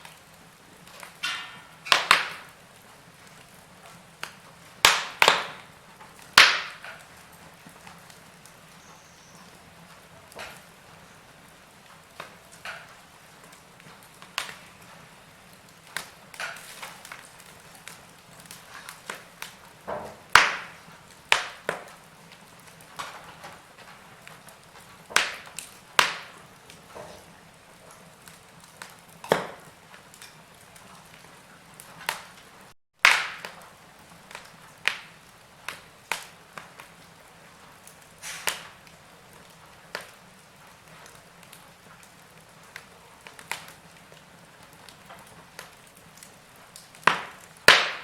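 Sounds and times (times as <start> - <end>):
low fire hiss: 0.0 - 48.0
wood fire crackling and popping: 0.0 - 48.0.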